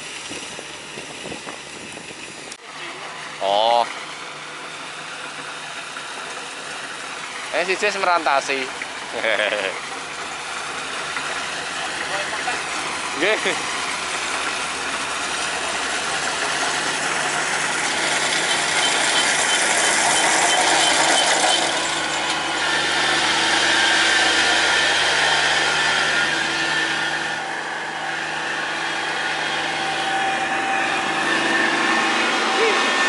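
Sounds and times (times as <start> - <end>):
diesel engine running: 0.0 - 33.0
machinery rattling: 0.0 - 33.0.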